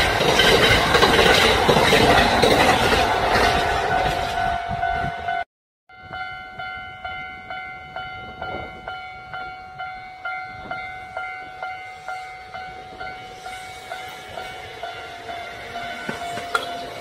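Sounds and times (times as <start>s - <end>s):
level-crossing warning bell ringing: 0.0s - 17.0s.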